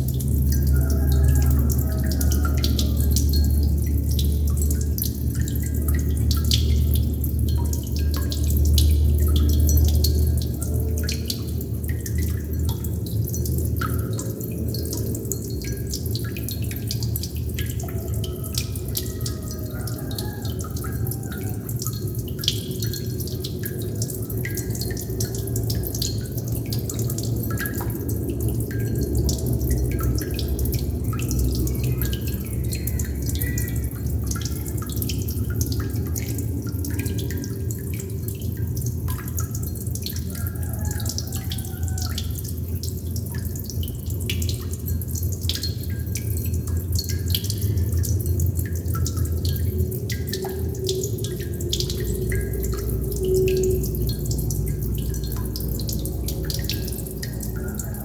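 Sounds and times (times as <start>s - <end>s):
low steady rumble: 0.0s - 58.0s
water droplets dripping: 0.0s - 58.0s.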